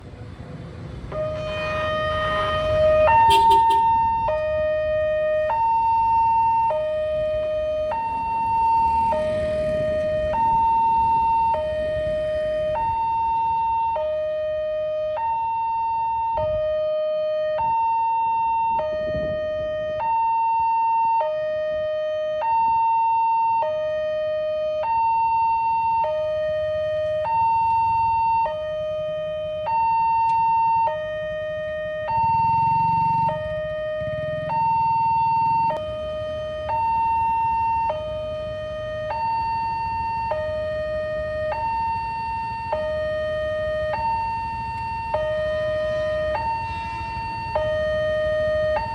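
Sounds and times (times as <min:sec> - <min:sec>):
low traffic rumble: 0:00.0 - 0:20.2, 0:23.6 - 0:48.9
level crossing two-tone alarm: 0:01.1 - 0:48.9.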